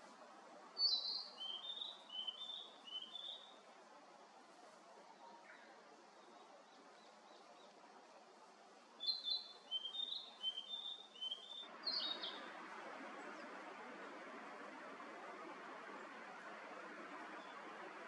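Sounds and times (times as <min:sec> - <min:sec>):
steady outdoor hiss: 0:00.0 - 0:18.0
songbird singing: 0:00.8 - 0:03.7, 0:05.1 - 0:08.2, 0:09.0 - 0:18.0.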